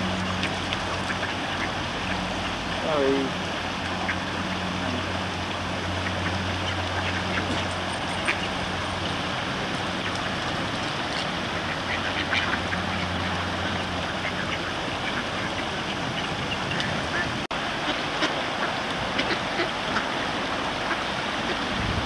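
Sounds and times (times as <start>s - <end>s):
ducks quacking: 0.0s - 21.7s
shallow stream rushing: 0.0s - 22.0s.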